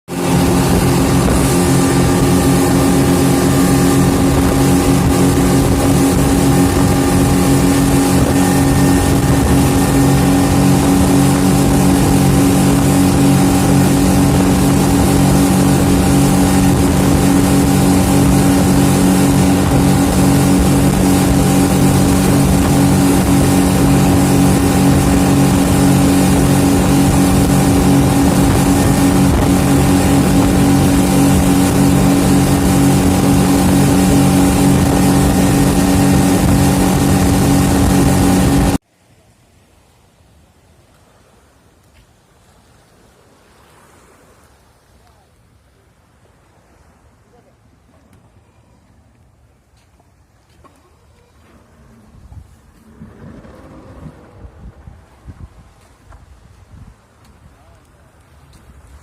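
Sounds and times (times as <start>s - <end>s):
boat engine drone: 0.1s - 38.8s, 46.1s - 55.2s
rushing water and wind: 0.1s - 59.0s.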